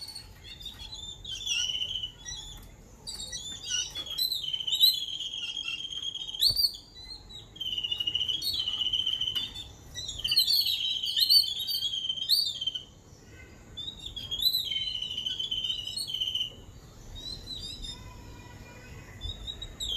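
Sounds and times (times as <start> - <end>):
birds chattering: 0.0 - 19.9.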